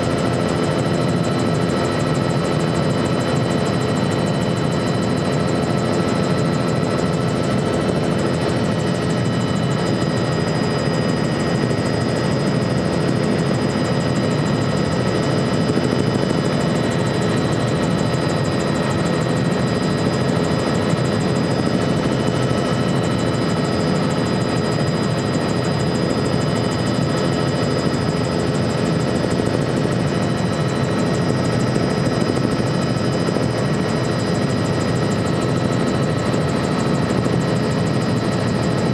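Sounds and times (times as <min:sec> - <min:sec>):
helicopter rotor and engine rumble: 0:00.0 - 0:38.9.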